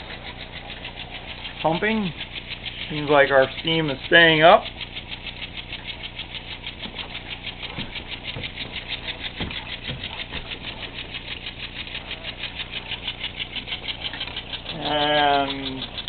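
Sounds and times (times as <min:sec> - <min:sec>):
model steam engine running: 0:00.0 - 0:16.0
pump working: 0:00.0 - 0:16.0.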